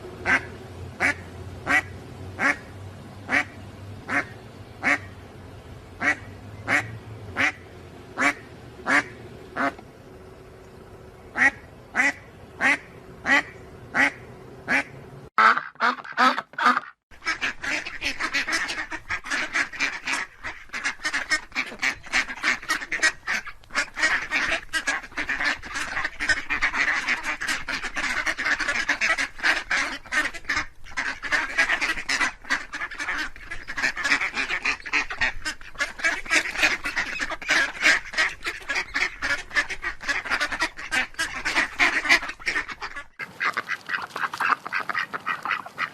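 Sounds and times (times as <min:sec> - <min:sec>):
duck quacking: 0:00.2 - 0:02.7, 0:03.3 - 0:05.2, 0:06.0 - 0:07.6, 0:08.2 - 0:09.8, 0:11.3 - 0:45.9
flock of ducks quacking: 0:00.2 - 0:05.2, 0:05.9 - 0:09.8, 0:11.3 - 0:45.9.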